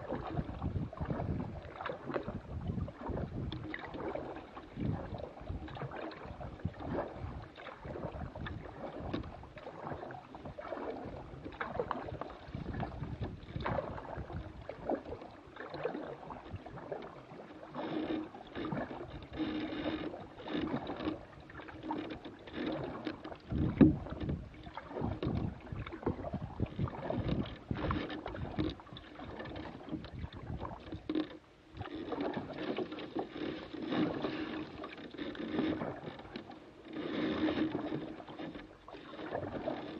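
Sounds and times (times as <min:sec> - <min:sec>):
paddle splashing water: 0:00.0 - 0:39.9.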